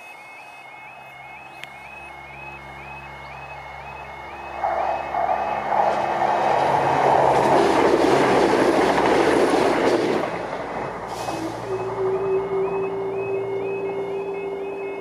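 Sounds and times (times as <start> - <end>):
two-tone crossing alarm: 0.0 - 9.2, 11.1 - 15.0
diesel train passing: 0.0 - 15.0.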